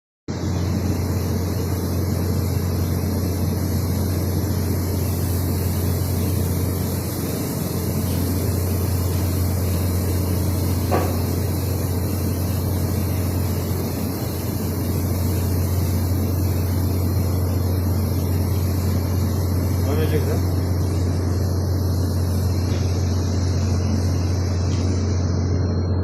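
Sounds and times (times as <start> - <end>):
welding equipment humming: 0.3 - 26.0.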